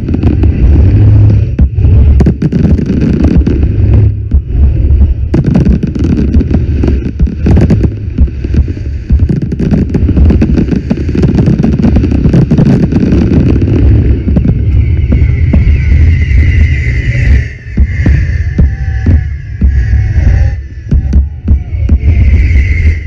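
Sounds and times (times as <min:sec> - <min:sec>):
deep rumble: 0:00.0 - 0:23.0
fireworks bangs and crackles: 0:00.0 - 0:23.0.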